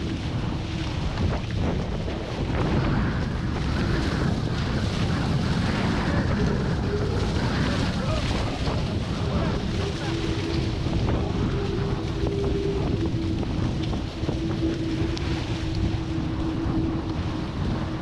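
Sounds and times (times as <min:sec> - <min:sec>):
steady hum: 0:00.0 - 0:18.0
water rushing past hulls: 0:00.0 - 0:18.0
wind buffeting microphone: 0:00.0 - 0:18.0.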